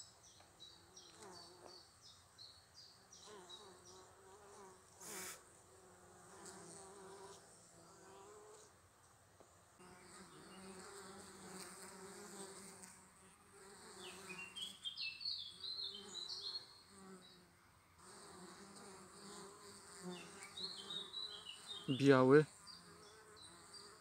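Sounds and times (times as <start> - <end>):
honeybees buzzing: 0.0 - 8.8, 9.7 - 24.0.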